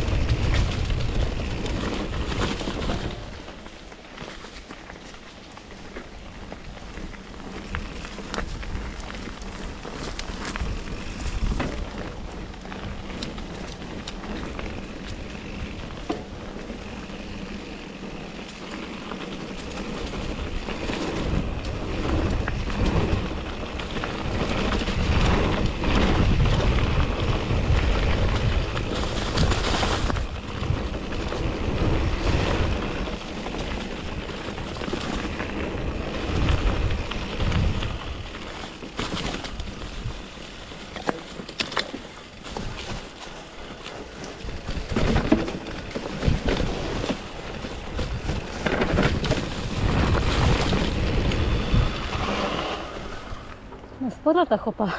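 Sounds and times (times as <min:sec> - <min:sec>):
wind rumble on microphone: 0:00.0 - 0:41.0, 0:42.0 - 0:54.3
bike clicks and rattles: 0:00.0 - 0:54.0
bike tyres rolling over dirt: 0:00.0 - 0:54.9.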